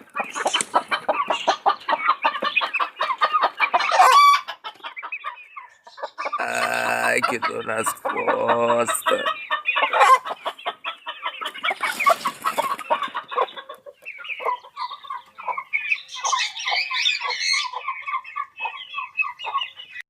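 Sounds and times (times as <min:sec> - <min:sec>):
chickens clucking: 0:00.0 - 0:20.0
higher-pitched chicken calls: 0:00.0 - 0:20.0.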